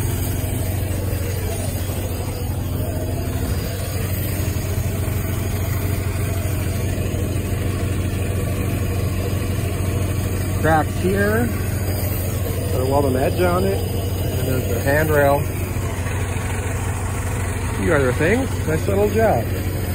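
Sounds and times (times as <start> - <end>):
engine idling: 0.0 - 19.9
higher steady tone: 0.0 - 19.9.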